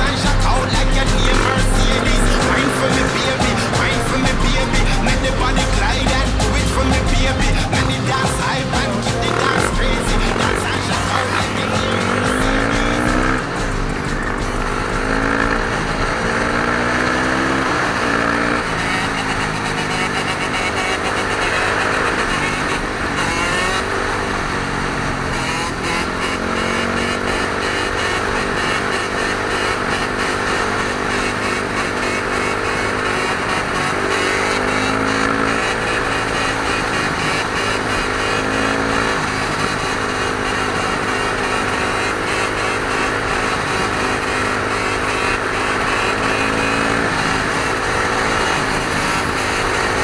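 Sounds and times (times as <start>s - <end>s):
dirt bike engines revving: 0.0s - 50.0s.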